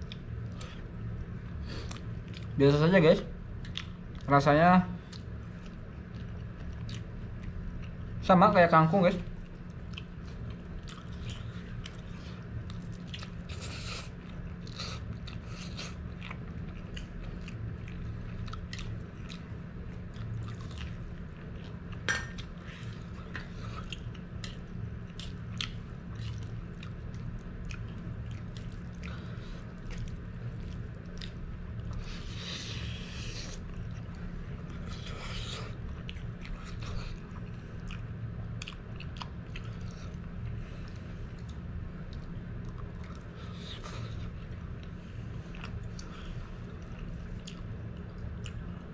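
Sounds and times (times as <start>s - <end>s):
person chewing and smacking: 0.0s - 2.6s, 3.6s - 4.3s, 5.0s - 8.0s, 9.4s - 48.9s
steady low hum: 0.0s - 48.9s.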